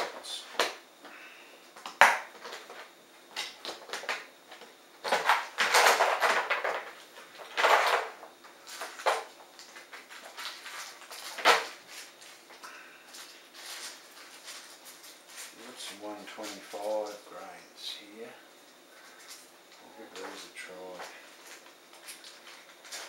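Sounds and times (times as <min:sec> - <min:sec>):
plastic bags crinkling: 0:01.8 - 0:17.2, 0:18.6 - 0:23.0.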